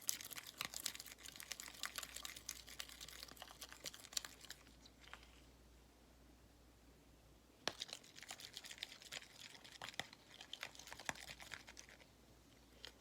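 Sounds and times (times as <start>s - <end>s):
utensil stirring slime in a bowl: 0.0s - 5.5s, 7.6s - 13.0s.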